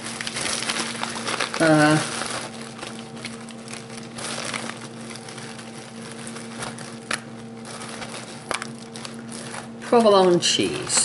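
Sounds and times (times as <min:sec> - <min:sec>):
faint steady hum: 0:00.0 - 0:11.0
plastic package crinkling: 0:00.0 - 0:11.0.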